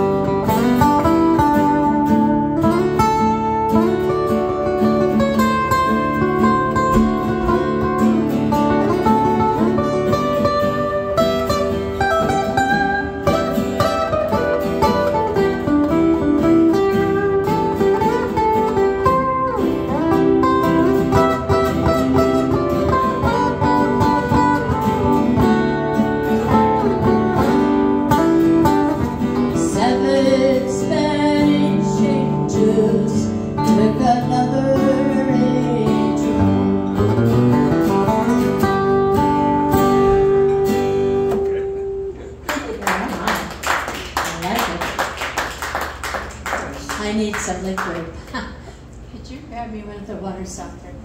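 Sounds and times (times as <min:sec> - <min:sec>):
two acoustic guitars playing: 0:00.0 - 0:49.1.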